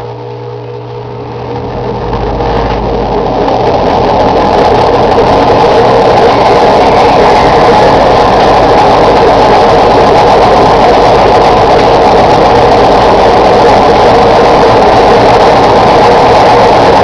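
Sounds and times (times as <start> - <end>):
washing machine spinning: 0.0 - 17.0
low rumble: 0.1 - 17.0.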